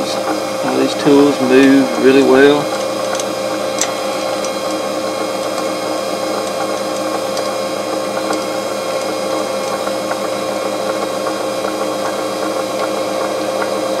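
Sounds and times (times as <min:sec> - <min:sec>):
lathe motor whining: 0:00.0 - 0:14.0.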